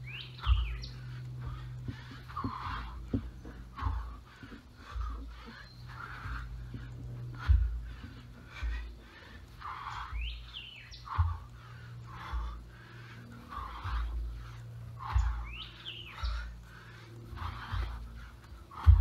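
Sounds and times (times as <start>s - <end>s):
dull low thumps: 0.0s - 19.0s
songbirds chirping: 0.0s - 19.0s.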